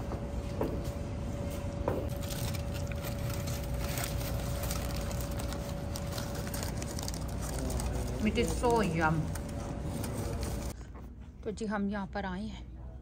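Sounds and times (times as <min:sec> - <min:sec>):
faint hum: 0:00.0 - 0:13.0
low room rumble: 0:00.0 - 0:13.0.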